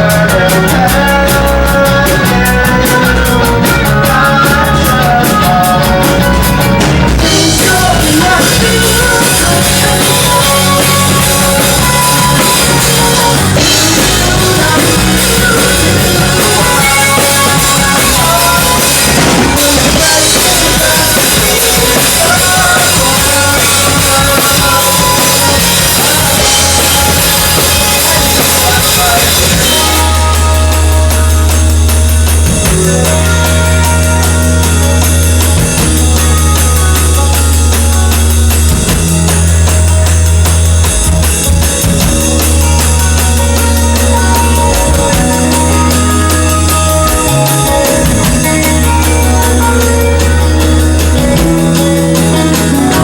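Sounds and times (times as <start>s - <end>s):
bass guitar: 0.0s - 53.0s
drum kit with cymbals: 0.0s - 53.0s
electric guitar: 0.0s - 53.0s.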